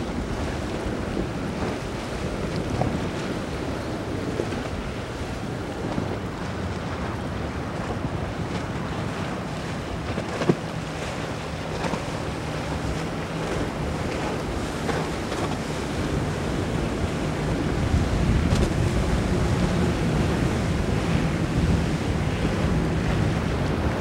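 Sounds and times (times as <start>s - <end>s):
boat hull splashing: 0.0s - 24.0s
waves: 0.0s - 24.0s
wind buffeting microphone: 0.0s - 24.0s.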